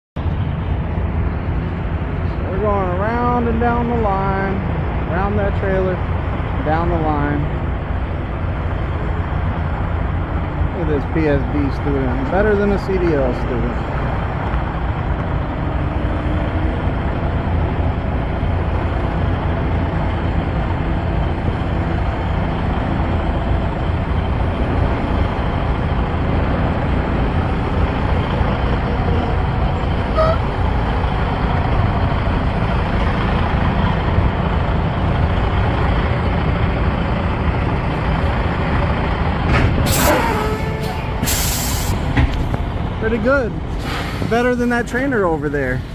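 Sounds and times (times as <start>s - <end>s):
diesel truck engine idling: 0.2s - 45.9s.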